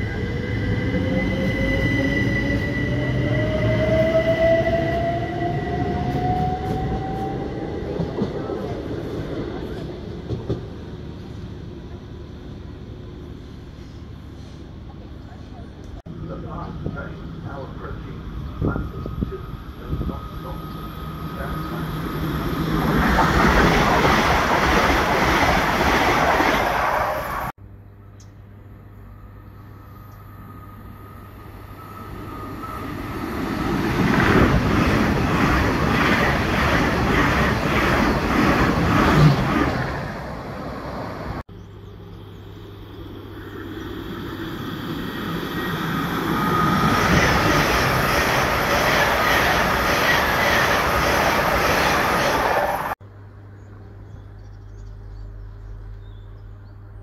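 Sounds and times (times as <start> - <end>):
train passing at speed: 0.0 - 15.0, 15.9 - 27.6, 29.2 - 41.5, 42.5 - 53.0.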